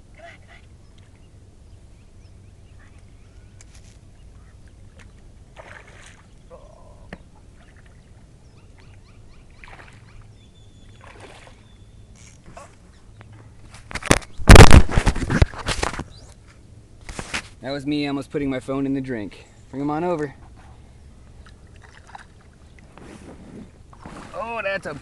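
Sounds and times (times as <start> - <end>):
low steady rumble: 0.0 - 14.4, 16.0 - 17.1, 17.7 - 24.2.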